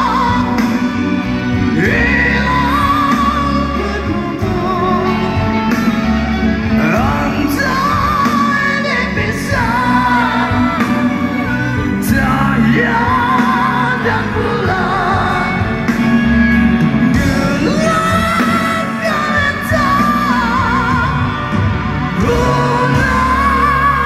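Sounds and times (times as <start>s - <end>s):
live rock band playing: 0.0s - 24.0s
man singing with vibrato: 0.0s - 24.0s.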